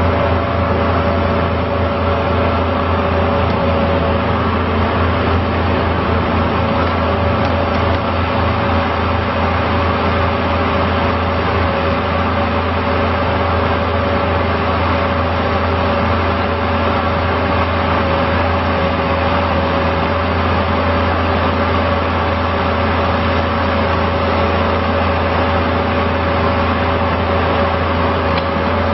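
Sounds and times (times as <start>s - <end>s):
compact loader engine running: 0.0s - 28.9s.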